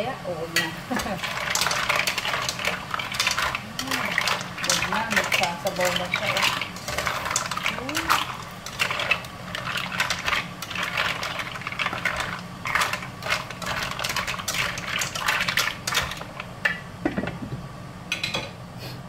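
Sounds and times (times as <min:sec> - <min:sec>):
mussel shells clattering in a wok: 0:00.4 - 0:17.4
spatula scraping a wok: 0:00.6 - 0:16.1.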